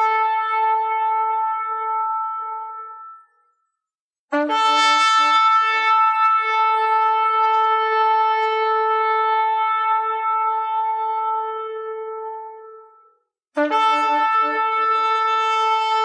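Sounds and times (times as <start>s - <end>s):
shofar blast: 0.0s - 3.3s, 4.3s - 13.0s, 13.6s - 16.0s.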